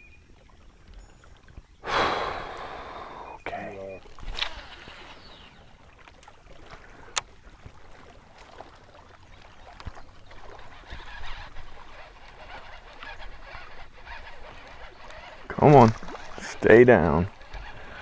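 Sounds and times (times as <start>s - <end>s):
faint water and boat sounds: 0.0s - 18.0s.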